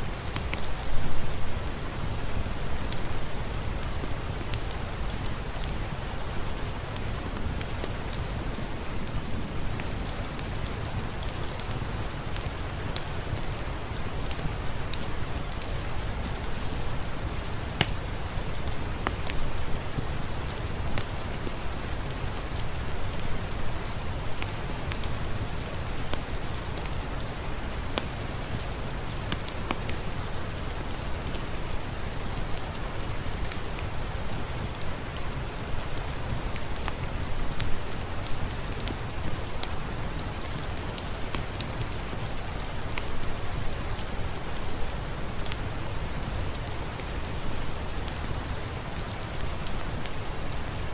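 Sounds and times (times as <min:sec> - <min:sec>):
steady rain hissing: 0:00.0 - 0:50.9.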